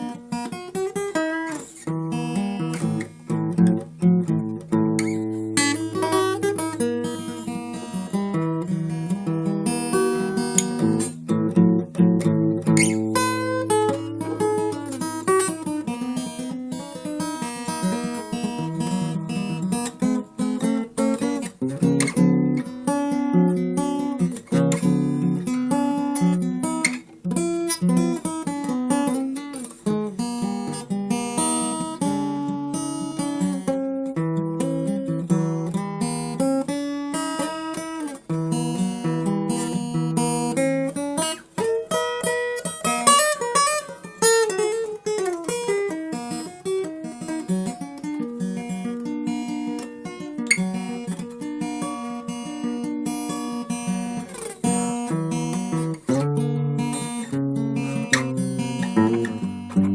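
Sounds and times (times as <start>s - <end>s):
acoustic guitar solo: 0.0s - 59.9s.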